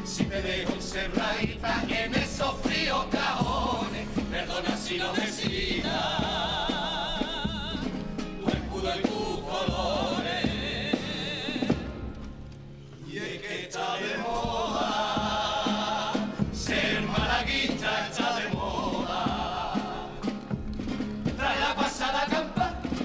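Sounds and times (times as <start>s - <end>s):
men singing in chorus: 0.0s - 12.0s, 13.0s - 20.5s, 21.3s - 23.0s
strummed guitars: 0.0s - 13.2s, 13.8s - 23.0s.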